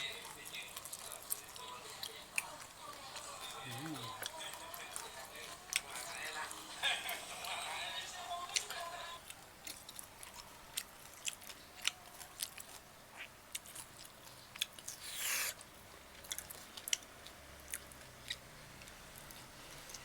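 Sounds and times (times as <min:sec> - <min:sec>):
person chewing: 0:00.7 - 0:06.2, 0:08.5 - 0:20.0.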